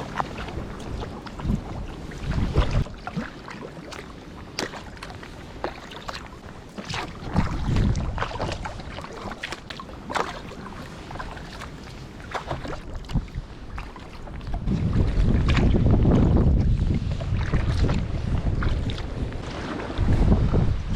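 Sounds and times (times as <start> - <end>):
wind buffeting microphone: 0.0 - 3.3, 5.0 - 20.9
kayak paddle splashing: 0.0 - 20.9.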